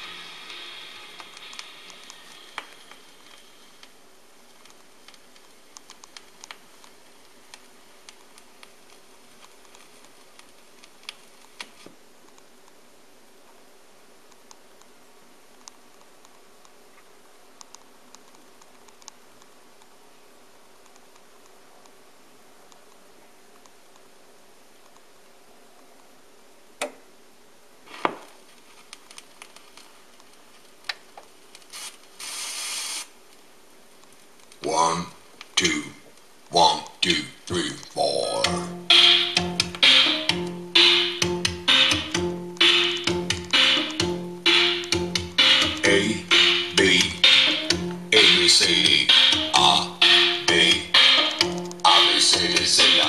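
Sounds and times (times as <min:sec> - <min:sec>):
vinyl crackles and pops: 0:00.0 - 0:25.9, 0:27.8 - 0:53.0
vinyl record surface hiss: 0:00.0 - 0:53.0.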